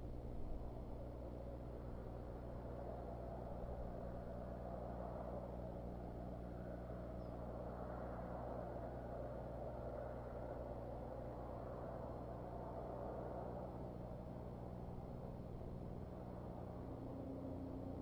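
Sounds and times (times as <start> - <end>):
low hum and rumble: 0.0 - 18.0.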